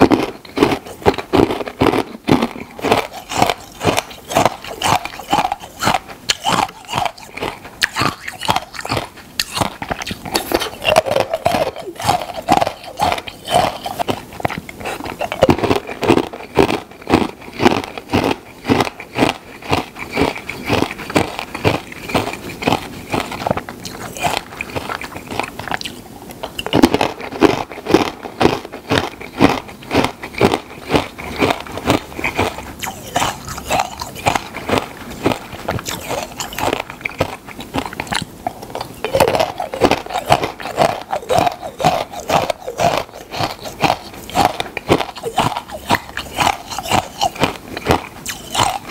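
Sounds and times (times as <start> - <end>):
crunchy food chewing: 0.0 - 48.9.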